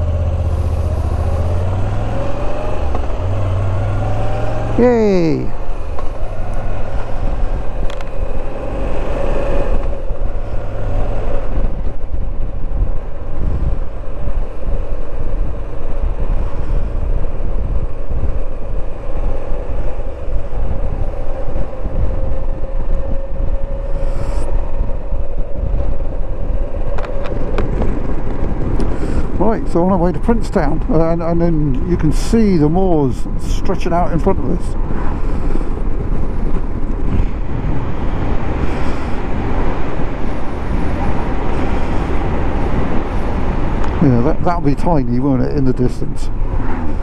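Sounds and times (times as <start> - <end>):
motorcycle engine cruising: 0.0 - 47.0
wind buffeting microphone: 0.0 - 47.0.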